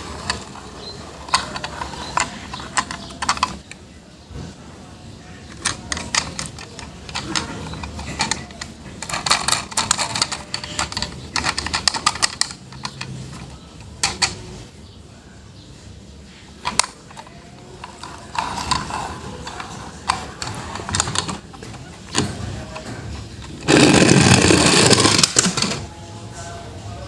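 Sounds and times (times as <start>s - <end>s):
toys and packaging rattling: 0.0s - 3.8s, 5.5s - 14.4s, 16.6s - 26.0s.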